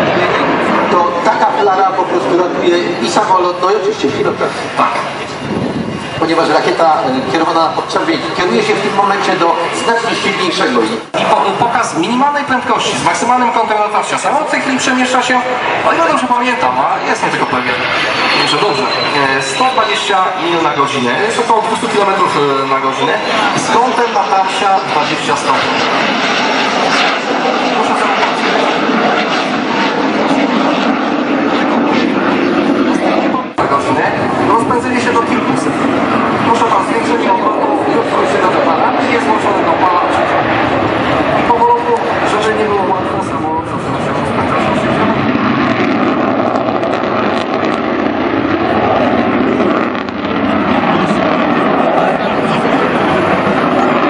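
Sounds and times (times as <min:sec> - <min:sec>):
jet engine roaring: 0:00.0 - 0:54.0.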